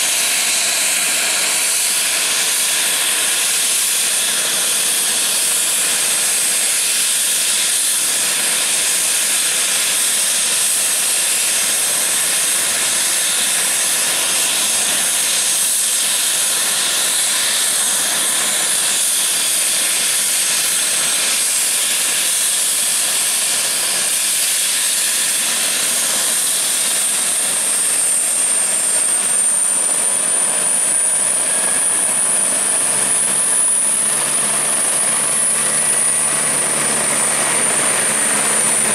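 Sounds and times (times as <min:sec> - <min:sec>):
helicopter rotor turning: 0:00.0 - 0:38.9
helicopter turbine whine: 0:00.0 - 0:38.9.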